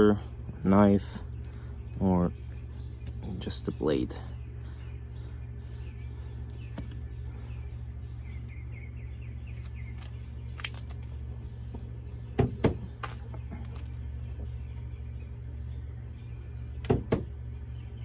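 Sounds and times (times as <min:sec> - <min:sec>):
birds chirping faintly: 0:00.0 - 0:18.0
steady low hum: 0:00.0 - 0:18.0.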